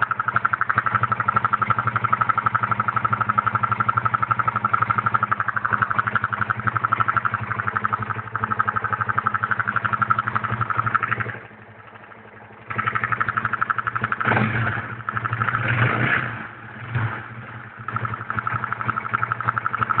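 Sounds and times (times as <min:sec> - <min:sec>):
motorcycle engine idling with ticking: 0:00.0 - 0:20.0.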